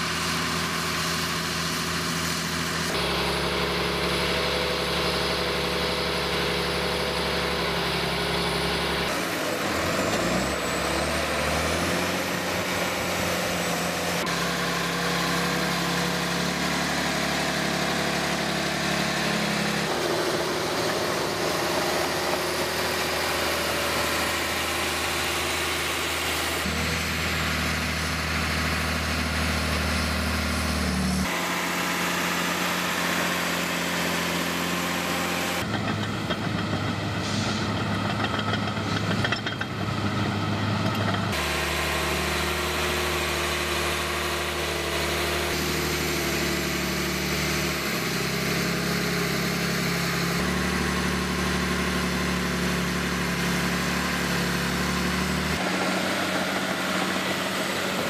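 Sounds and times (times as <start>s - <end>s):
bulldozer diesel engines running: 0.0s - 58.0s.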